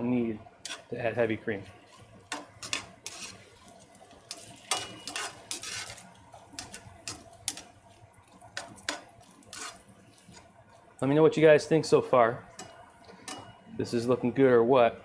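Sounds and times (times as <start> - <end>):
meat sizzling in a pan: 0.6 - 13.7.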